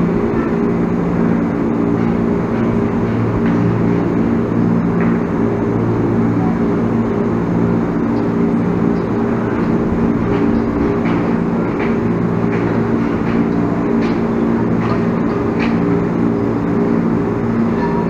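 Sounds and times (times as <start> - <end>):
train equipment humming: 0.0 - 18.0.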